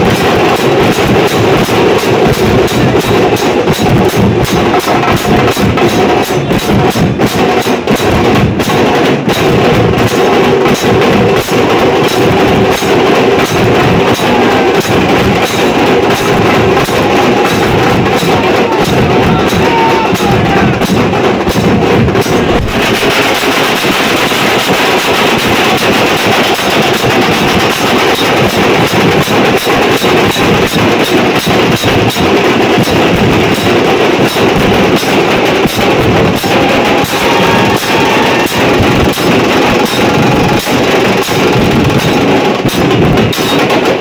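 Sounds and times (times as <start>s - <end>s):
dense crowd: 0.0s - 44.0s
procession drumming: 0.0s - 44.0s.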